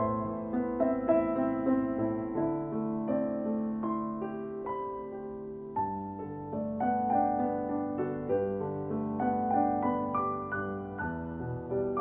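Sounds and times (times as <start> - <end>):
slow solo piano: 0.0 - 12.0.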